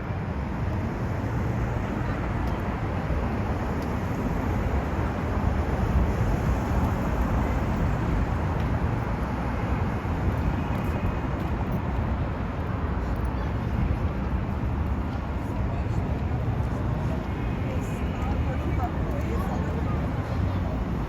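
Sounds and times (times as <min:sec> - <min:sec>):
city hum: 0:00.0 - 0:21.0
low traffic rumble: 0:00.0 - 0:21.0.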